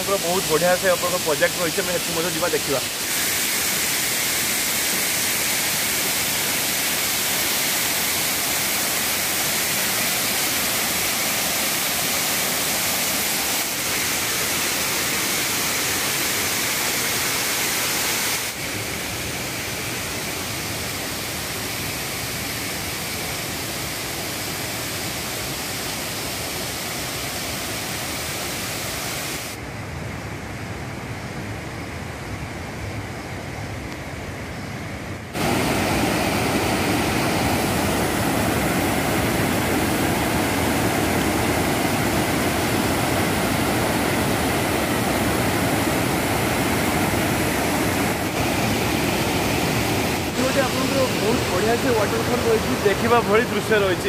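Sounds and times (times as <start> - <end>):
waterfall rushing: 0.0 - 29.6, 35.3 - 54.0
stream water flowing: 0.0 - 29.7, 35.3 - 54.0.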